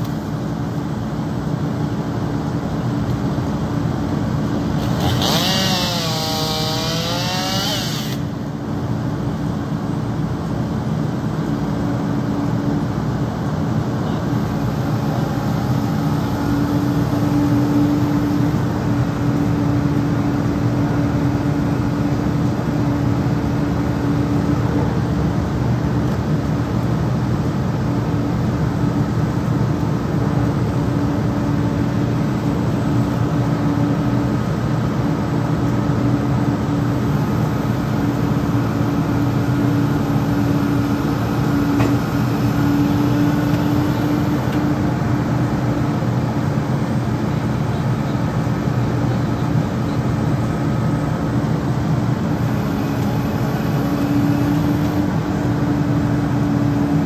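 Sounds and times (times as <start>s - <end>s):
crane engine and hydraulic pump drone: 0.0s - 57.0s
steady humming tone: 0.0s - 57.0s.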